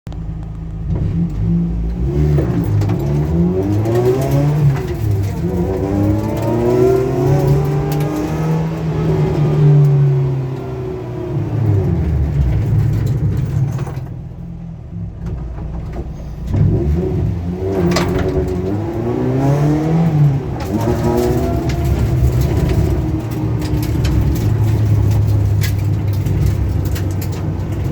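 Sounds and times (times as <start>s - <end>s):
rally car engine accelerating: 0.1s - 27.9s.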